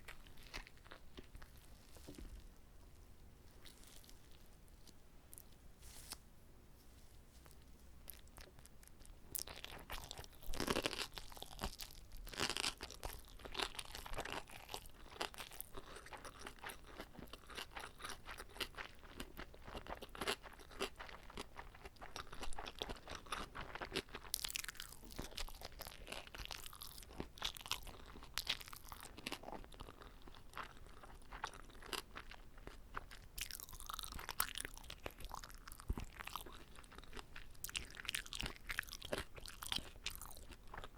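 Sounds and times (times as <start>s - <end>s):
person chewing crunchy food: 0.0s - 5.6s, 7.4s - 40.9s.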